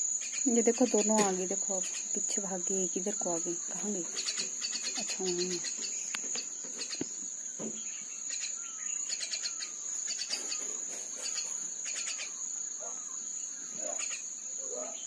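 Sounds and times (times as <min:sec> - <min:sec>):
birds chirping: 0:00.0 - 0:15.0
high-pitched insect drone: 0:00.0 - 0:15.0.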